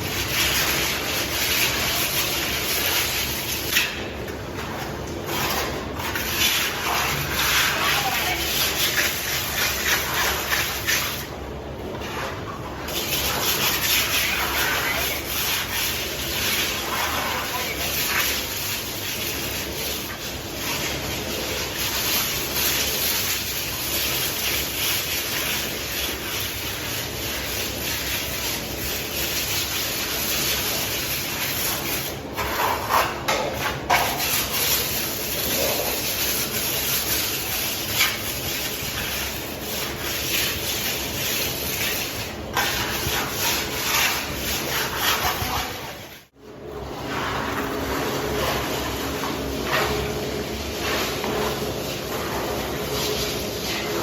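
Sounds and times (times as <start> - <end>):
trowel scraping plaster on wall: 0.0 - 11.3, 11.9 - 46.3, 46.9 - 54.0.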